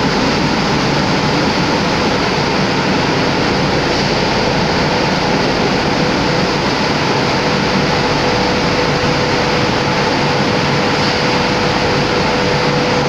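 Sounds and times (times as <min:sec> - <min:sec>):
loud machine noise with hum: 0:00.0 - 0:13.0.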